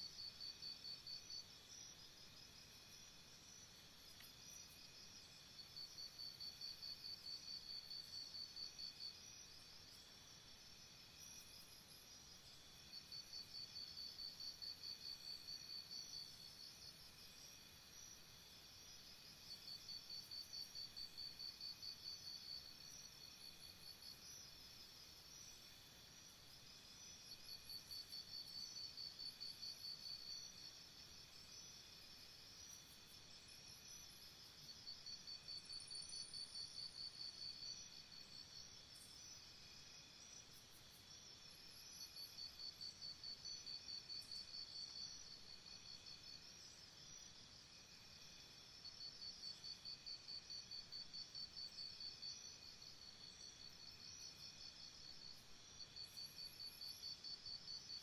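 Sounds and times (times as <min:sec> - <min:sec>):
faint high insect tones: 0:00.0 - 0:58.0
insect chirping trill: 0:00.0 - 0:58.0.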